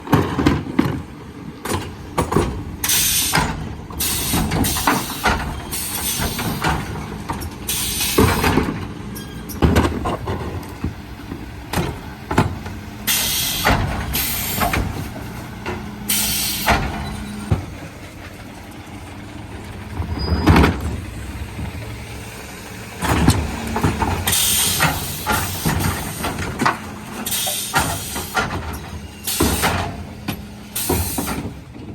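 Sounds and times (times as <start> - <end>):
wheelie bins knocking and clattering: 0.0 - 22.2, 22.9 - 31.9
truck engine and hydraulic hum: 0.0 - 31.9.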